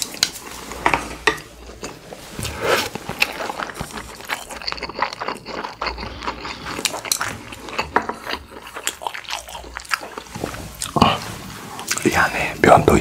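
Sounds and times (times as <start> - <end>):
chewing food: 1.6 - 12.1.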